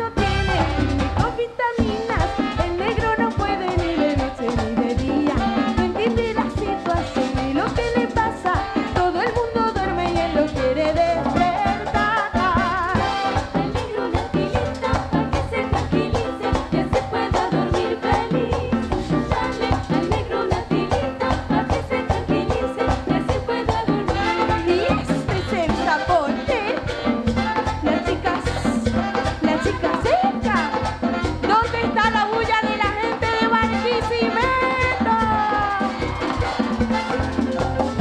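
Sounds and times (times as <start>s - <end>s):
women singing: 0.0s - 37.1s
drums and percussion: 0.0s - 38.0s
latin dance band playing: 0.0s - 38.0s.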